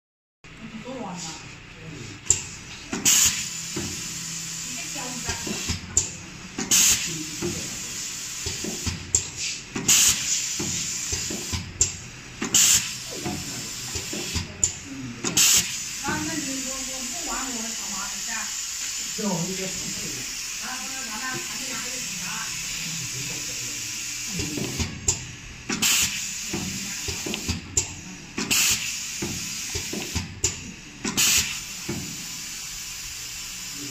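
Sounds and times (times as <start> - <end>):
compressed air bursts hissing: 3.0 - 5.8, 6.6 - 11.7, 12.4 - 14.5, 15.4 - 33.8.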